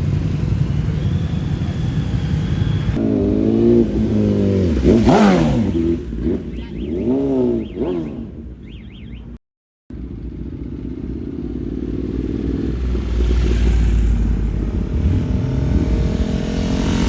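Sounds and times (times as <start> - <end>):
vehicle engine revving: 1.7 - 9.0, 10.3 - 17.0.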